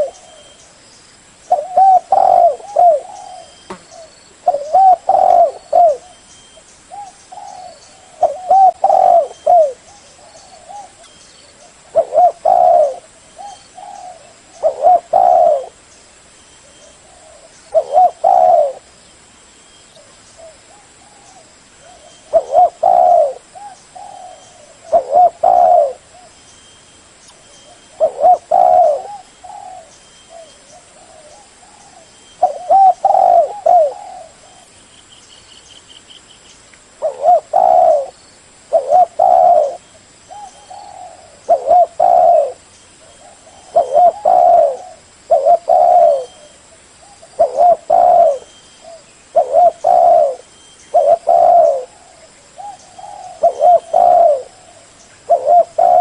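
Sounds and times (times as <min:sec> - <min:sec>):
dove cooing: 0:00.0 - 0:00.6, 0:01.5 - 0:06.2, 0:06.9 - 0:15.8, 0:16.7 - 0:18.9, 0:20.0 - 0:26.4, 0:27.6 - 0:34.7, 0:37.0 - 0:56.0.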